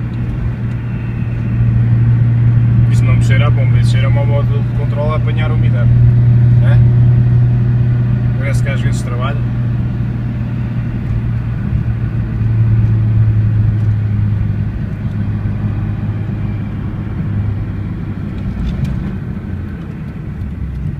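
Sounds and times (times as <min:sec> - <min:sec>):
car engine low drone: 0:00.0 - 0:20.9.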